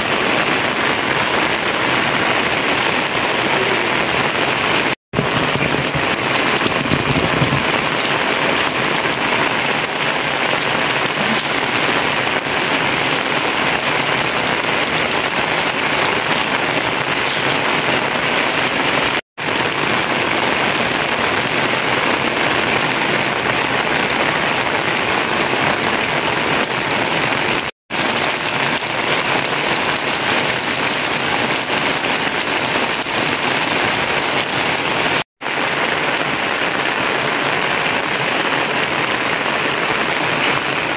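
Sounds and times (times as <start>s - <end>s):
rain on roofs and wet ground: 0.0s - 40.9s.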